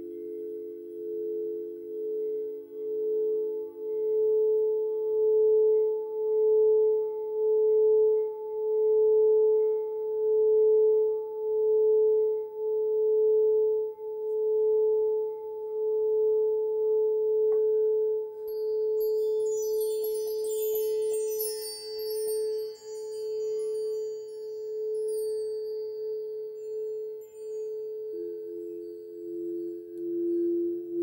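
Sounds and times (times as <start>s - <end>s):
singing bowl tone: 0.0s - 31.0s.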